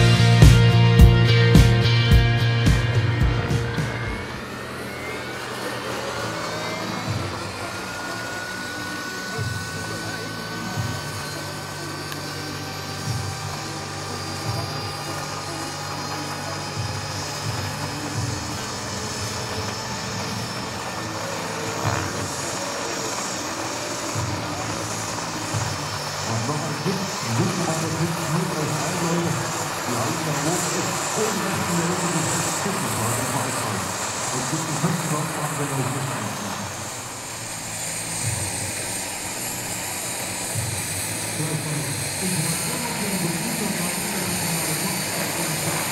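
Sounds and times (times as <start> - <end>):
gas turbine whine: 0.0 - 45.9.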